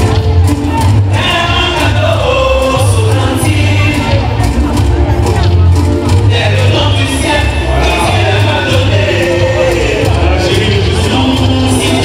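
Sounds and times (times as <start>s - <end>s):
dance music with pulsing bass: 0.0s - 12.0s.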